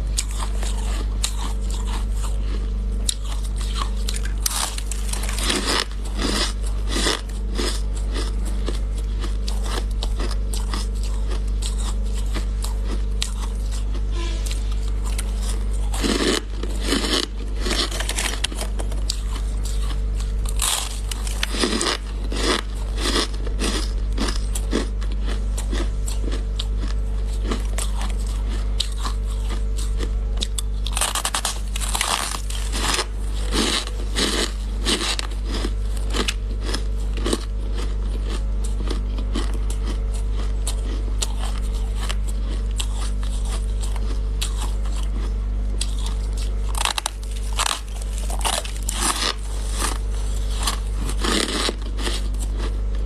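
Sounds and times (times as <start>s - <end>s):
person chewing crunchy ice: 0.0s - 53.0s
steady low hum: 0.0s - 53.0s.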